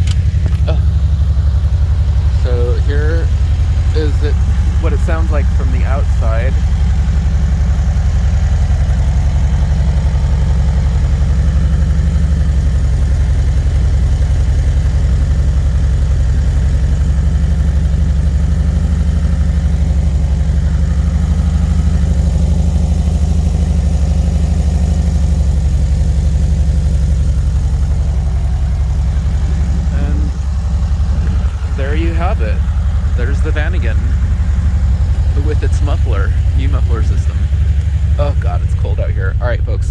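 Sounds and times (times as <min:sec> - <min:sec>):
van engine idling: 0:00.0 - 0:39.9.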